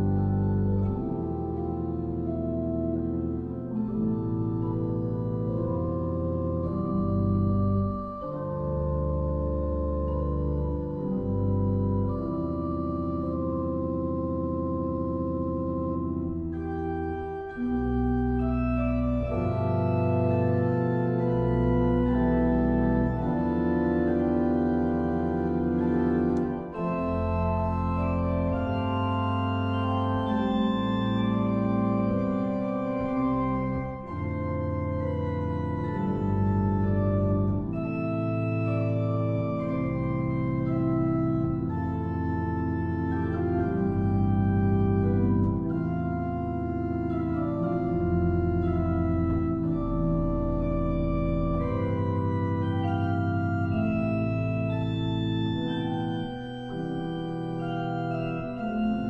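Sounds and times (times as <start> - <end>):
deep organ bass notes: 0.0 - 59.0
organ chords: 0.0 - 59.0.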